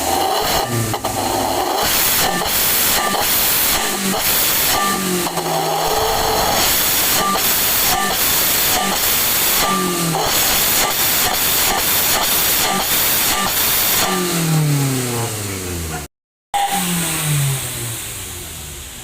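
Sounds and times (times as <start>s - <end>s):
car engine revving through exhaust: 0.0s - 19.0s.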